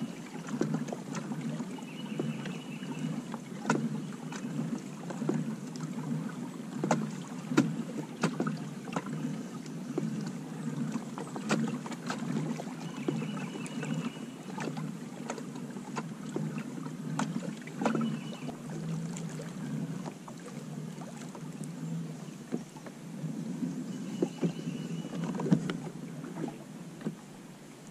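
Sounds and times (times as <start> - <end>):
steady low hum: 0.0 - 27.9
clicks and knocks from kayak: 0.4 - 23.0, 23.6 - 27.9.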